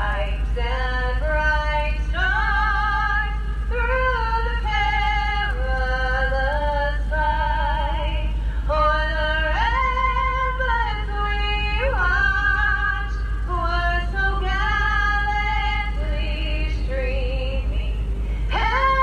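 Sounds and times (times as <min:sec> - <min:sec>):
person singing an anthem: 0:00.0 - 0:19.0
steady low hum: 0:00.0 - 0:19.0.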